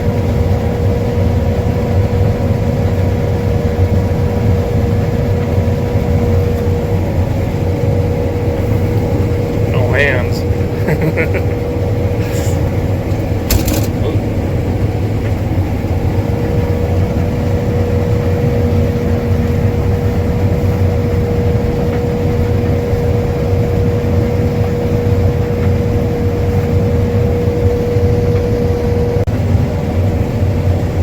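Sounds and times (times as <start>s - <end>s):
combine harvester drone: 0.0s - 31.0s
machine whine: 0.1s - 31.0s.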